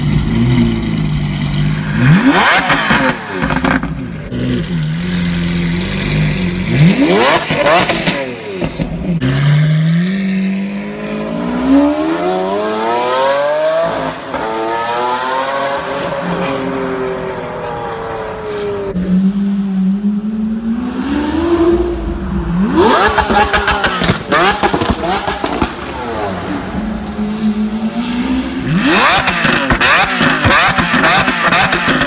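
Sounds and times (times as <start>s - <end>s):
sports car engine accelerating: 0.0s - 32.0s.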